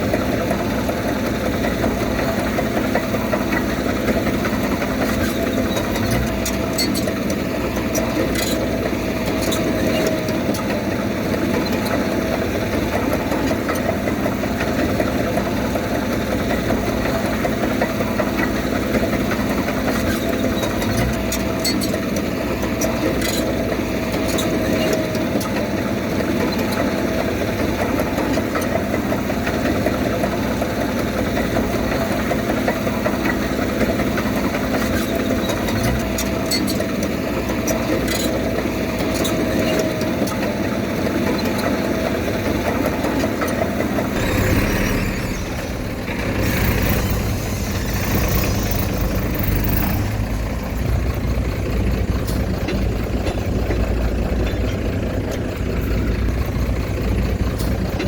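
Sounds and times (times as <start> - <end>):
earthmoving machine diesel engine: 0.0 - 58.0.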